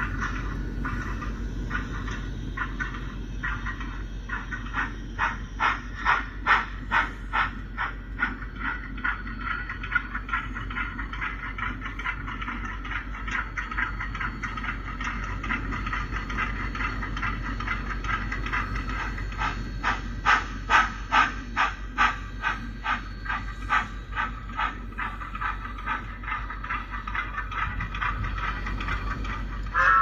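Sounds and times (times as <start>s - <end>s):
model train running: 0.0s - 30.0s.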